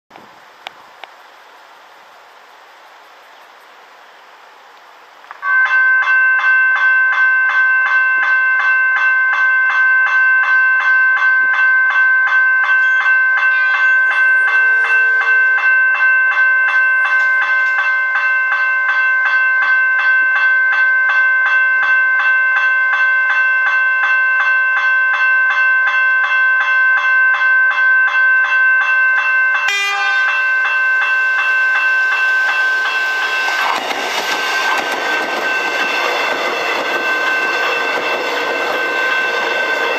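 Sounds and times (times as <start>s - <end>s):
electric train rumbling past: 0.1s - 39.9s
level crossing bells ringing: 5.4s - 39.9s.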